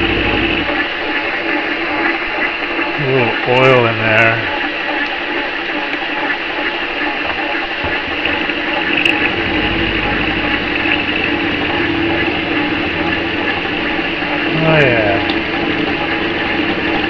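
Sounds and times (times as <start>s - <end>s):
metal lathe whirring: 0.0s - 17.0s.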